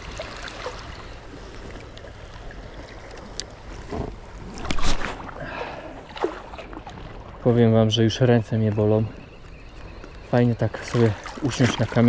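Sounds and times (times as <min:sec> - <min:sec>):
sea water lapping and sloshing: 0:00.0 - 0:12.0.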